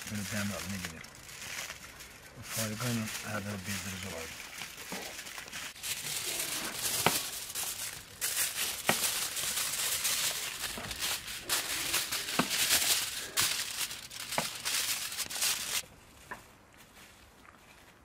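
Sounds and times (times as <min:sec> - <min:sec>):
aluminium foil crinkling: 0:00.0 - 0:15.8.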